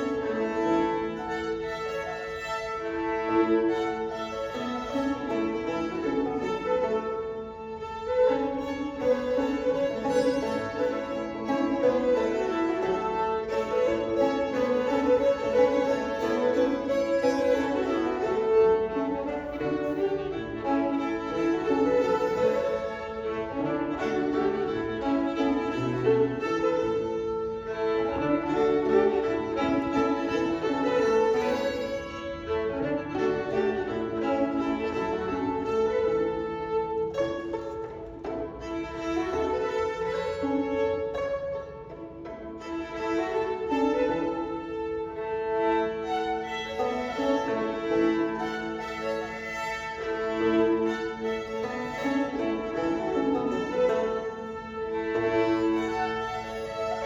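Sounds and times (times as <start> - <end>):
banjo playing: 0.0 - 57.0
fiddles bowing a melody: 0.0 - 57.0.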